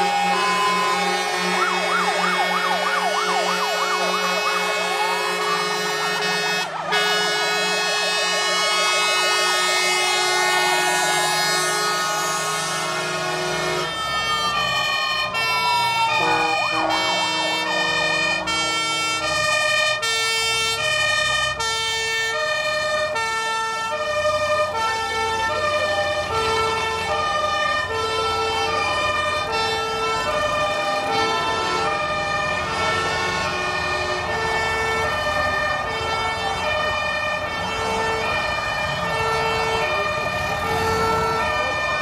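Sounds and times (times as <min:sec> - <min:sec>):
two-tone siren: 0:00.0 - 0:42.0
wailing siren: 0:00.0 - 0:42.0.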